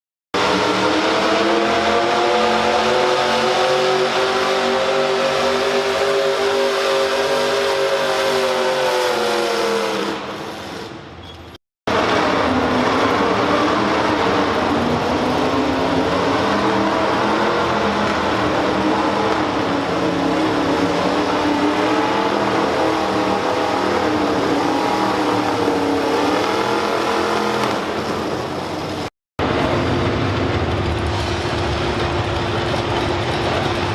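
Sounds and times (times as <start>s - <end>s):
tractor engine at full throttle: 0.4s - 11.0s, 11.9s - 33.9s.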